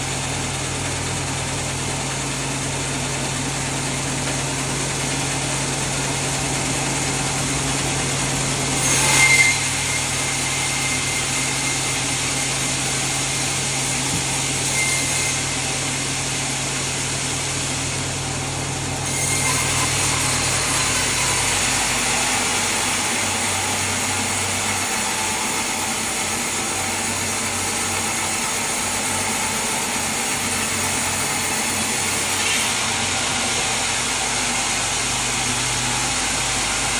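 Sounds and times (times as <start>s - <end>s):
saw cutting noise: 0.0s - 36.9s
sawmill machinery running: 0.0s - 36.9s.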